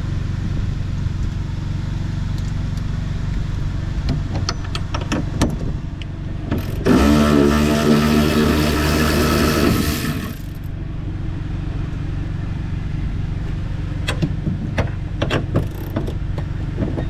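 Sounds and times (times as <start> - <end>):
engine running: 0.0 - 17.0
low mechanical hum: 0.0 - 17.0.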